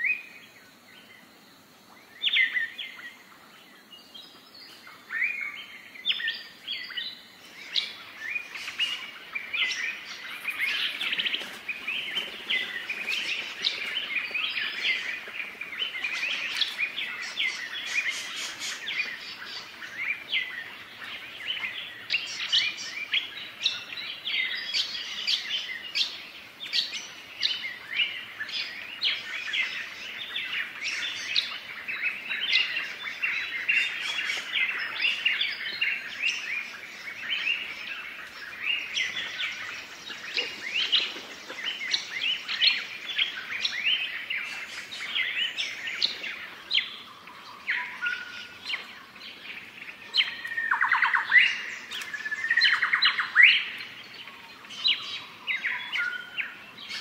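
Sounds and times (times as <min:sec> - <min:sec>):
birds chirping and calling: 0:02.1 - 0:57.0.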